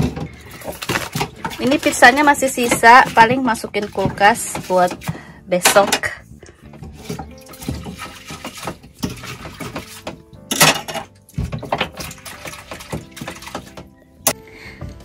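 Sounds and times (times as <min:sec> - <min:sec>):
dishes and cutlery clattering: 0:00.0 - 0:13.9
water sloshing: 0:00.0 - 0:14.4.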